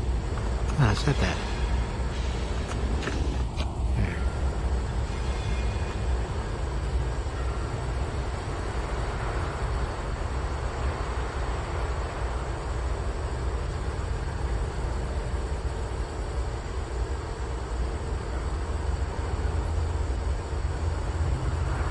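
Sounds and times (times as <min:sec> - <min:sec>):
diesel locomotive rumbling: 0:00.0 - 0:21.9.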